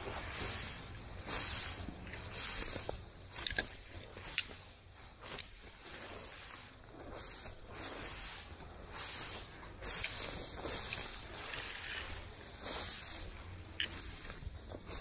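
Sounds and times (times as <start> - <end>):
brush rustling and swishing: 0.0 - 15.0
footsteps in undergrowth: 1.8 - 15.0.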